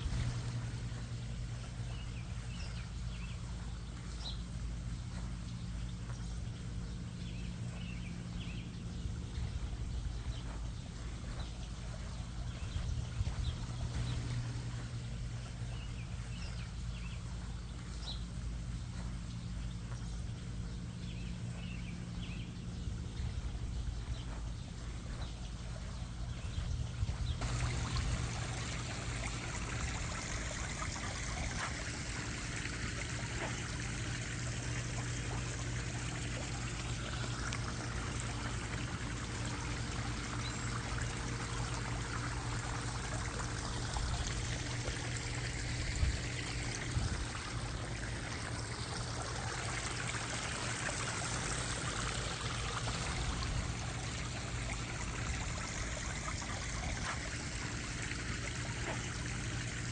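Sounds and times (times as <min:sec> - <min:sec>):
water splashing and trickling: 0:00.0 - 0:59.9.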